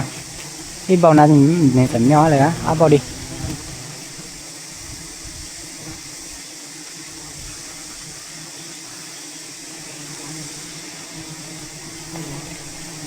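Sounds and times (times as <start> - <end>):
swarm of bees buzzing: 0.0 - 13.0.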